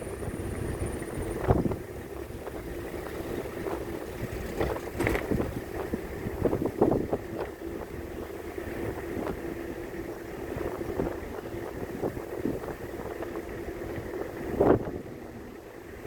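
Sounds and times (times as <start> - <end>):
wind on microphone: 0.0 - 9.7, 10.4 - 15.6
car engine and road rumble: 0.0 - 16.0.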